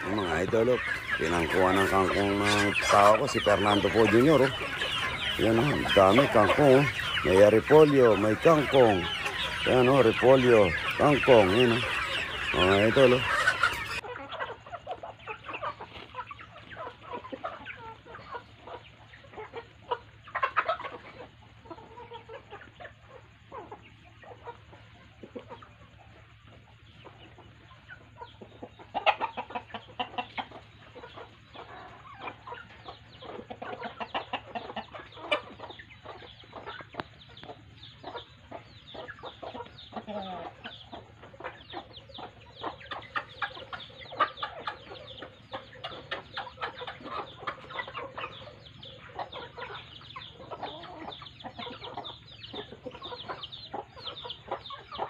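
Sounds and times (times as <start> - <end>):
chickens clucking softly: 0.0 - 55.0.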